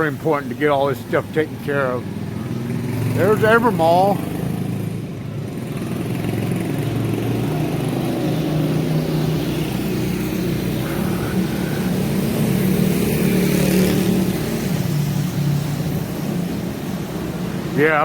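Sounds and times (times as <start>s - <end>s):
motorcycles running: 0.0s - 18.0s
vehicle engines running: 0.0s - 18.0s.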